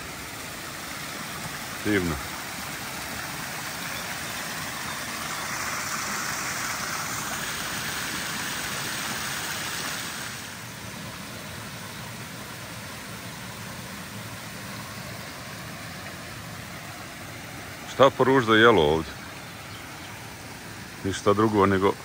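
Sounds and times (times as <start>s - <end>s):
water pouring over stone weirs: 0.0s - 19.4s.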